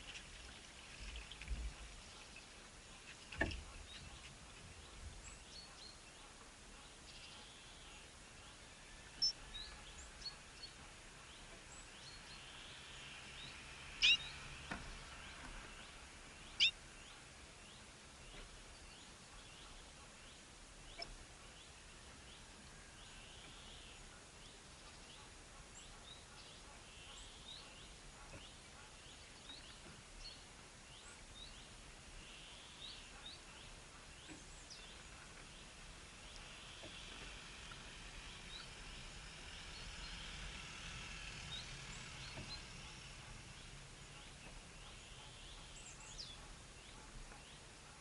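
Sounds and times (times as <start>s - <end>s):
small birds chirping: 0.0s - 48.0s
steady outdoor hiss: 0.0s - 48.0s.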